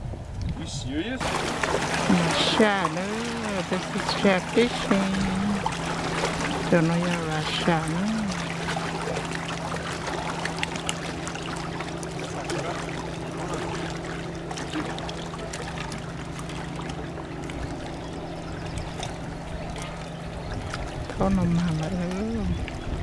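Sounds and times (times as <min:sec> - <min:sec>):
river water against rocks: 0:00.0 - 0:23.0
steady low hum: 0:00.9 - 0:23.0.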